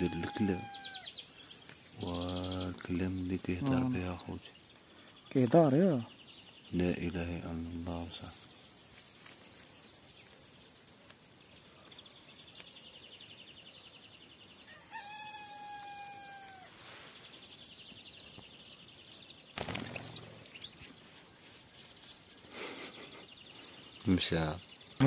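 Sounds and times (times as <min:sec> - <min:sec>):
songbirds twittering: 0:00.0 - 0:25.0.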